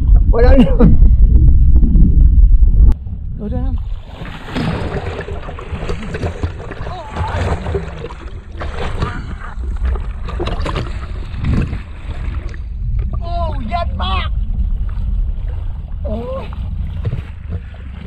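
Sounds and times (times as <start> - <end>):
low rumble of water on microphone: 0.0 - 18.0
water splashing and sloshing: 1.6 - 18.0.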